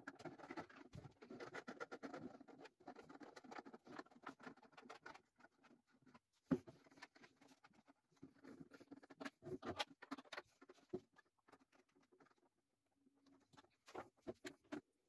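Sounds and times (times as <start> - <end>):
plastic parts scratching and tapping: 0.0 - 15.0.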